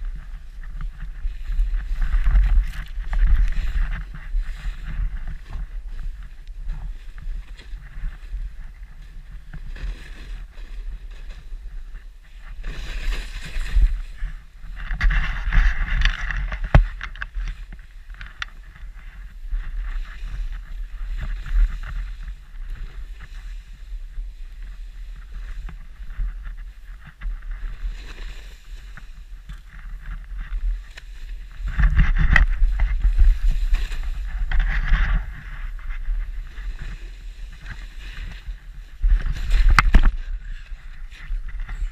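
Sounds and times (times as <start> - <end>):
skis swishing through powder snow: 0.0 - 41.9
wind rumble on microphone: 0.0 - 41.9.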